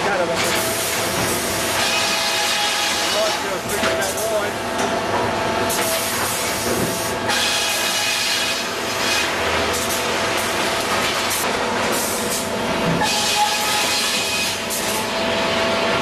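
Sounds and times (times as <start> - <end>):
sawbench machinery running: 0.0 - 16.0.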